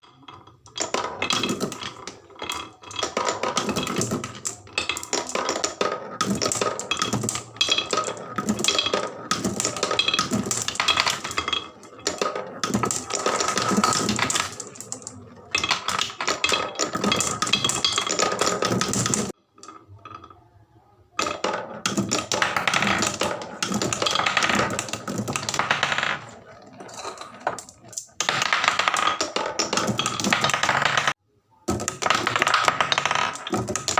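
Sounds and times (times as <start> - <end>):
marbles rattling down wooden run: 0.1 - 20.4, 21.2 - 33.9.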